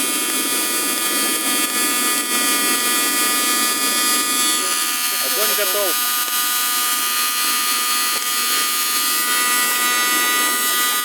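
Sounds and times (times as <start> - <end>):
heat gun motor whine: 0.0 - 11.0.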